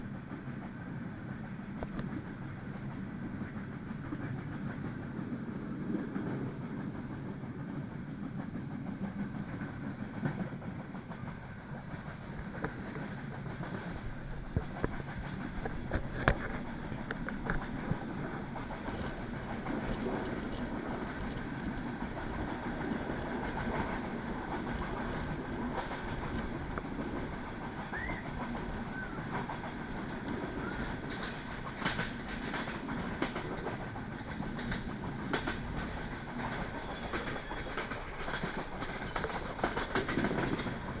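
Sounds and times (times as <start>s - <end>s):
sharp clacks of train wheels: 0.0s - 41.0s
train wheels rumbling on rails: 0.0s - 41.0s.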